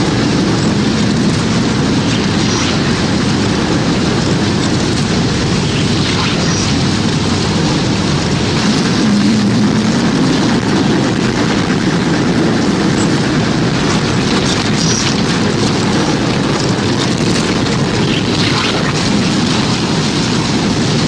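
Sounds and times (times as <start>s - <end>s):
deep rush of tornado wind: 0.0s - 21.0s.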